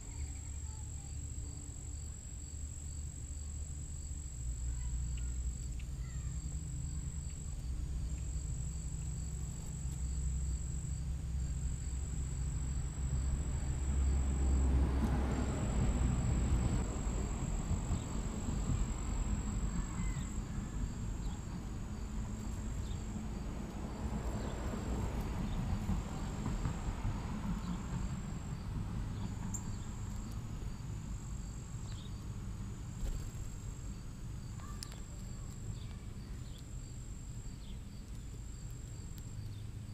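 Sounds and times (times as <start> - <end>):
high insect trill: 0.0 - 39.9
low steady hum: 0.0 - 39.9.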